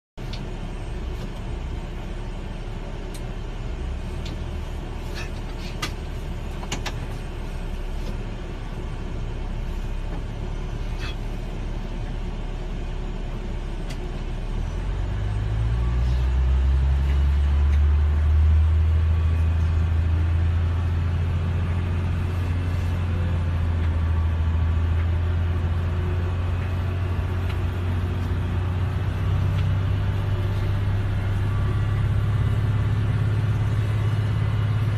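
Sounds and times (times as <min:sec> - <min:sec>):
deep engine drone: 0:00.2 - 0:34.9.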